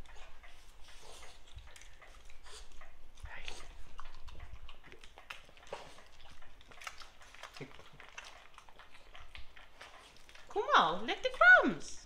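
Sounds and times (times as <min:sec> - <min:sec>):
dogs licking and chewing: 0:00.0 - 0:12.0.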